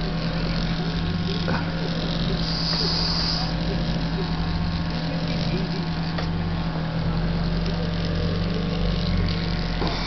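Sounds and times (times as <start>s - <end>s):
electric massager humming: 0.0s - 10.0s.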